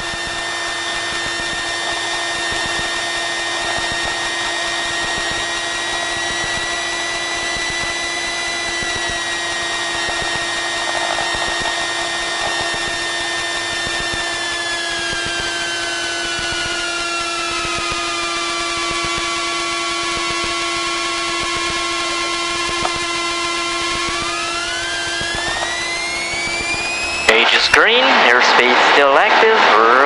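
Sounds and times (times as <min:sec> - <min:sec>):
high engine whine: 0:00.0 - 0:30.0
propeller aircraft engine drone: 0:00.0 - 0:30.0.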